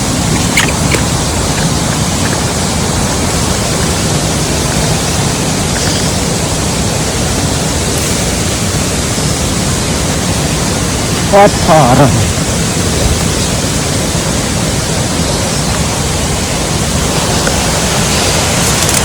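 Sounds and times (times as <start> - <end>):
water rushing down waterfall: 0.0 - 19.0.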